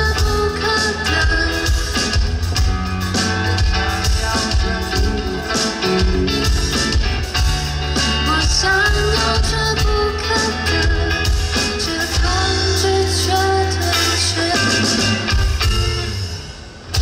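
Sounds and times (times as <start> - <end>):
person singing: 0.0 - 2.3, 3.2 - 6.9, 8.0 - 15.7
bass: 0.0 - 17.0
drums: 0.0 - 17.0
guitar: 0.0 - 17.0.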